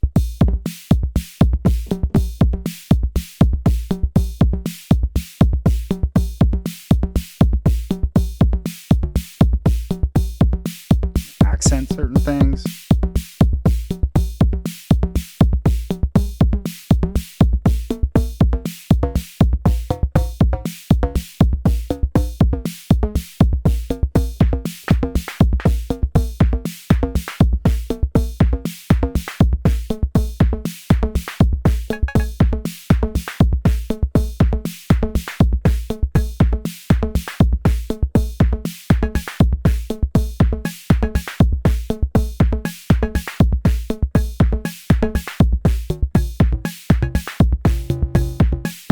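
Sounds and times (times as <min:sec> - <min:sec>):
deep kick drum: 0:00.0 - 0:48.9
drum machine beat: 0:00.0 - 0:48.9.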